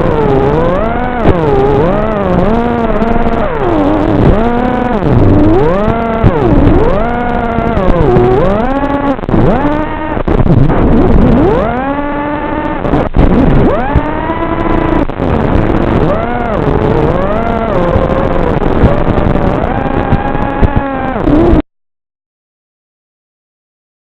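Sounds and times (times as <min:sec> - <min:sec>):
drone motors whining: 0:00.0 - 0:21.6.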